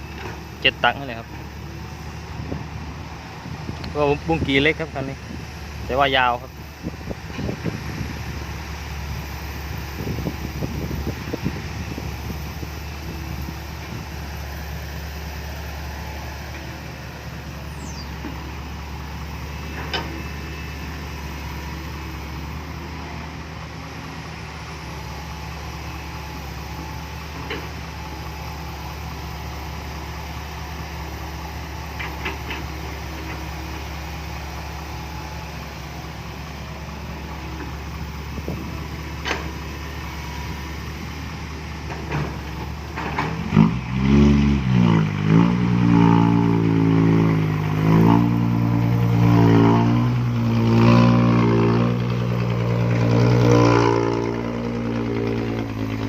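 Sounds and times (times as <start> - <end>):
diesel engine revving: 0.0 - 56.0
diesel engines idling: 0.0 - 56.0.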